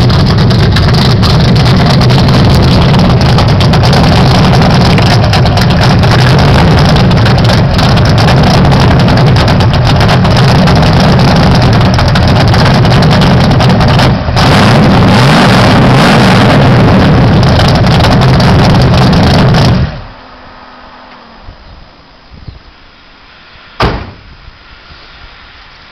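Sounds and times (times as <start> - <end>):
car engine idling rough: 0.0 - 25.9.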